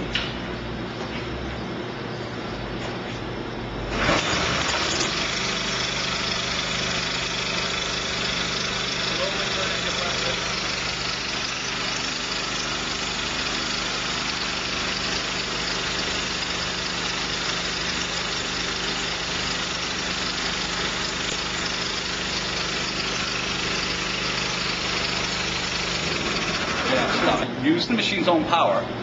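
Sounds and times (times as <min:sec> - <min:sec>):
small gas engine running: 0:03.9 - 0:27.4.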